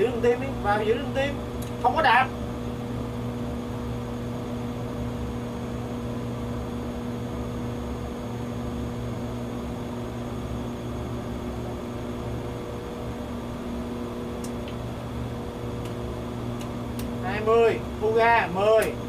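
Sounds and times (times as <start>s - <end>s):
cockpit hum: 0.0s - 19.0s.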